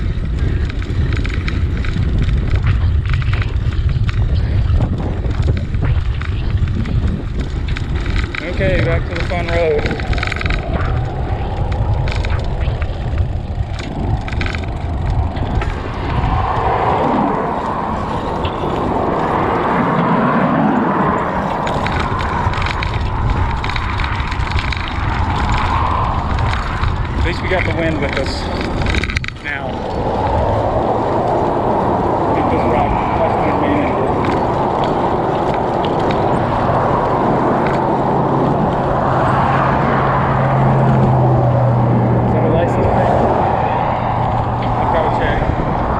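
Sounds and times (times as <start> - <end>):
bicycle tyre noise: 0.0 - 45.9
road noise: 0.0 - 45.9
wind buffeting microphone: 0.0 - 45.9.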